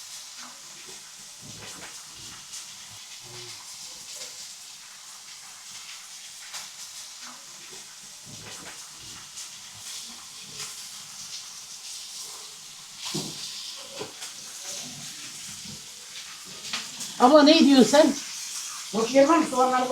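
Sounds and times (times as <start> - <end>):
fire crackles and pops: 0.0 - 19.9
meat sizzling on hot stone: 0.0 - 19.9.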